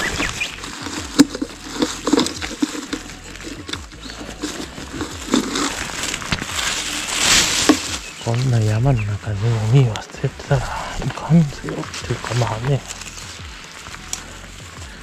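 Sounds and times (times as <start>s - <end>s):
dry leaves crackling: 0.0s - 15.0s
plastic bag rustling: 0.0s - 15.0s.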